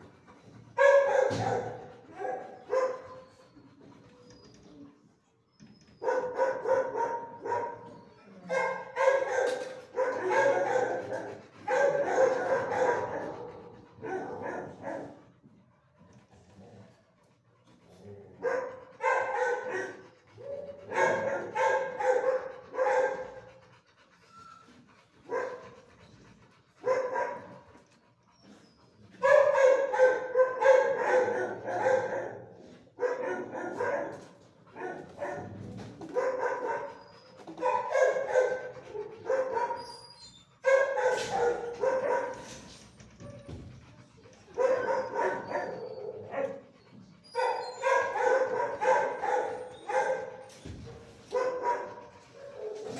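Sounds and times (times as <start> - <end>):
dogs barking: 0.6 - 3.5, 6.0 - 15.3, 18.1 - 23.8, 25.2 - 26.1, 26.7 - 27.7, 29.2 - 39.9, 40.5 - 52.9.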